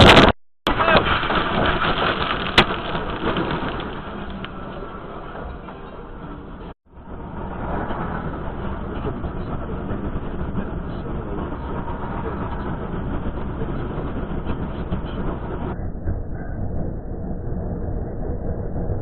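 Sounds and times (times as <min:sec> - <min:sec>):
vehicle rumbling: 0:00.0 - 0:19.0.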